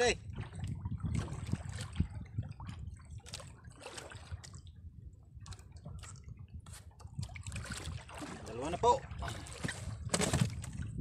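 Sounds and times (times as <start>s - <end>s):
water splashing against boat: 0.0s - 11.0s.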